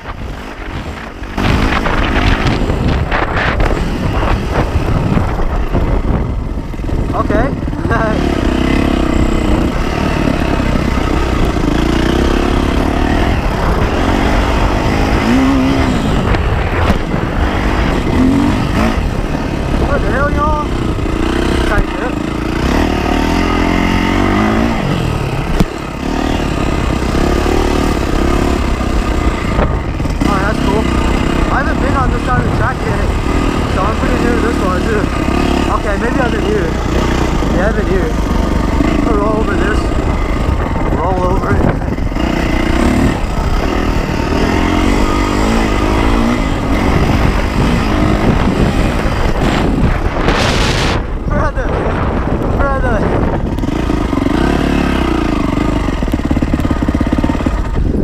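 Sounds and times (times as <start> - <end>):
dirt bike engine revving: 0.0 - 58.0
steady low rumble: 0.0 - 58.0.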